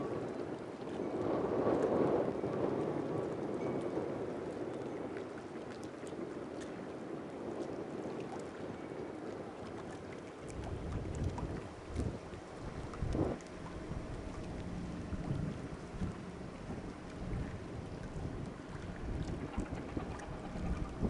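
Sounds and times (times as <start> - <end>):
rushing wind and sea water: 0.0 - 21.0
wind buffeting microphone: 0.0 - 21.0.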